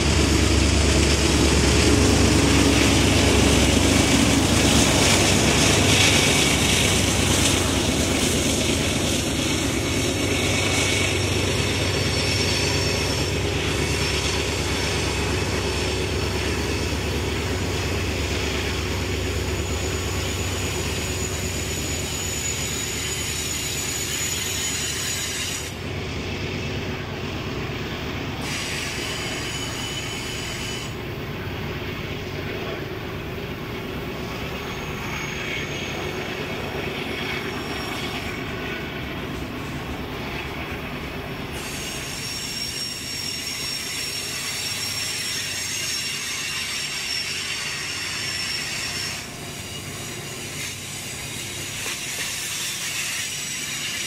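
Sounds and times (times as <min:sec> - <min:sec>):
high flange squeal: 0:00.0 - 0:26.7, 0:28.4 - 0:31.2, 0:34.1 - 0:40.8, 0:41.4 - 0:54.0
train wheels rumbling on rail: 0:00.0 - 0:54.0.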